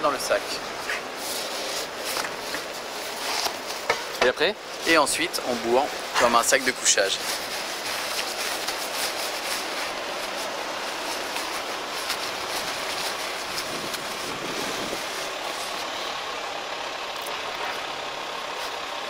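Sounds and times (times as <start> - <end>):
nylon poncho rustling: 0.0 - 19.0.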